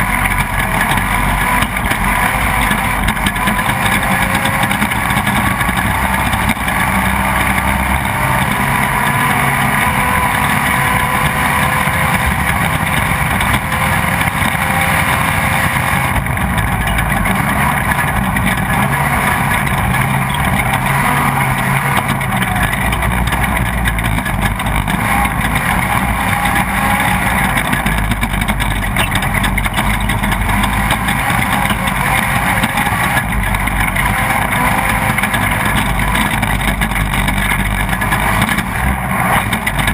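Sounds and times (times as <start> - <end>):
constant rushing noise: 0.0 - 39.9
off-road vehicle engine running: 0.0 - 39.9.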